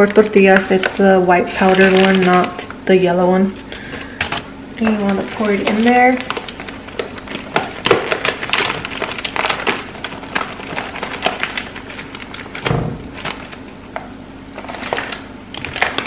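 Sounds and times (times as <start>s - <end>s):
paper bag crinkling: 0.0s - 2.9s, 3.5s - 13.8s, 14.5s - 16.0s.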